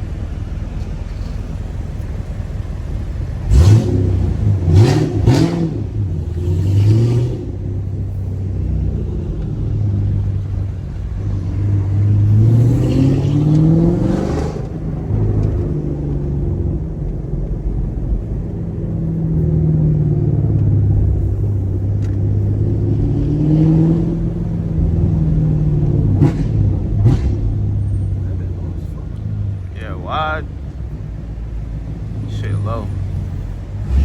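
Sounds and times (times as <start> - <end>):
car engine revving through gears: 2.8 - 34.0.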